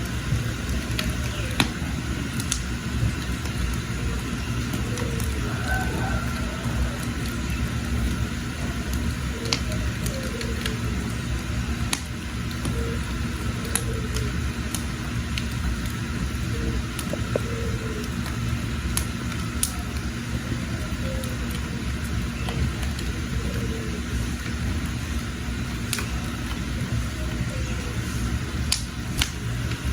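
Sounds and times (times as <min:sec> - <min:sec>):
fire low rumble: 0:00.0 - 0:29.9
wood fire crackling and popping: 0:00.0 - 0:29.9.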